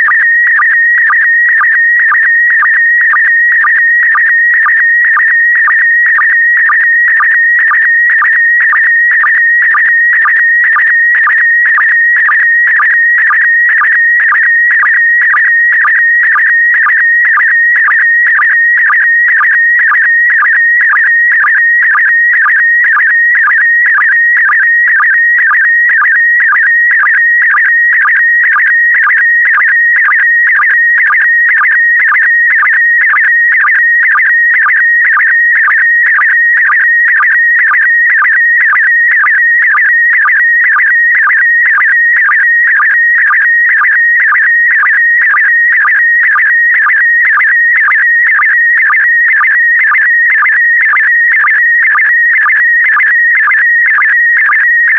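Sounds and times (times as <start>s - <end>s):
warbling sstv signal tone: 0.0s - 54.9s.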